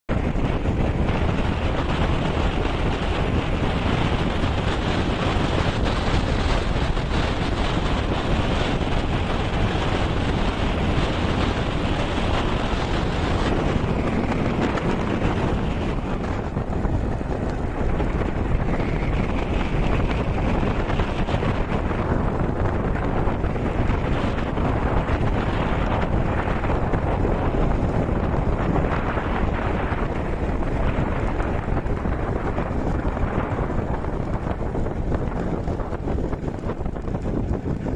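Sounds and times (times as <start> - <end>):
wind buffeting microphone: 0.0 - 37.9
vehicle road noise: 0.1 - 37.9.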